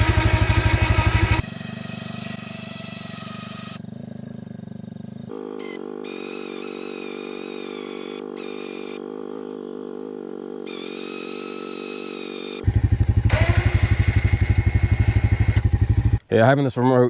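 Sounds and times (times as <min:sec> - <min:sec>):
electric winch motor whine: 0:00.0 - 0:03.9, 0:05.3 - 0:16.2
vehicle engine running: 0:00.0 - 0:11.0, 0:11.9 - 0:16.3.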